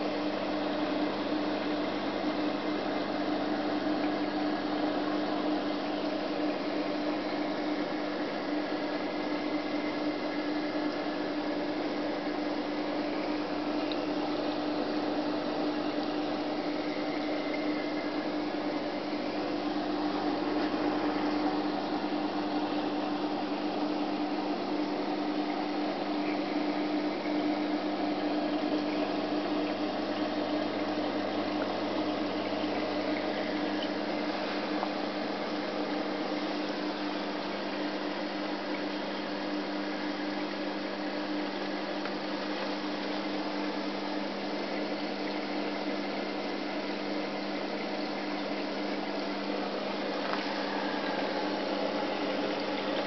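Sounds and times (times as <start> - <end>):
pump electrical hum: 0.0 - 53.0
water circulating: 0.0 - 53.0.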